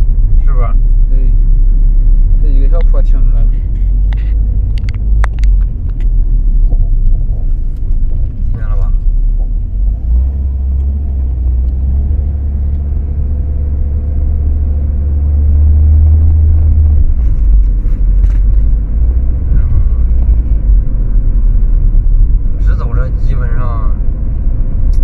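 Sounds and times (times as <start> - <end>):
car cabin road and engine drone: 0.0 - 25.0.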